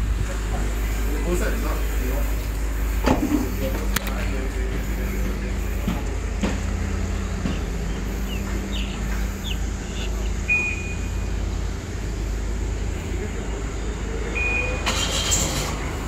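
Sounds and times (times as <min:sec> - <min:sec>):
street rumble: 0:00.0 - 0:16.0.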